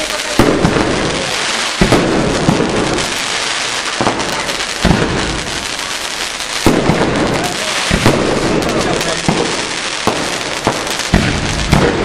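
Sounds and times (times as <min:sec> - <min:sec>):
firework shells booming: 0:00.0 - 0:12.0
fireworks crackling: 0:00.0 - 0:12.0.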